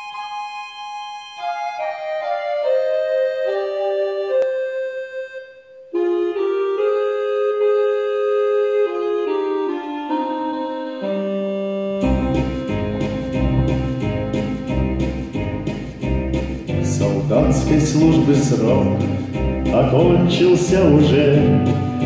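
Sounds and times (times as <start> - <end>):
keyboard instrumental music: 0.0 - 22.0.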